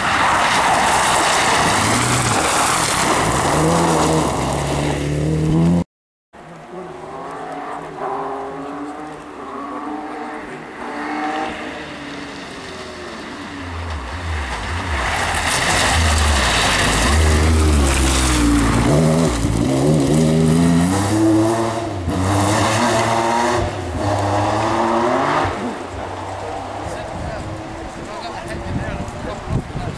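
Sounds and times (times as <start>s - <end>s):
rally car engine revving: 0.0s - 5.8s, 6.5s - 29.8s.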